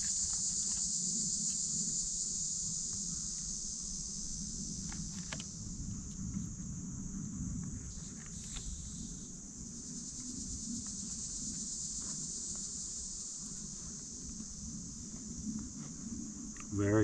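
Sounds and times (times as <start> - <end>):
insect chorus: 0.0 - 17.0.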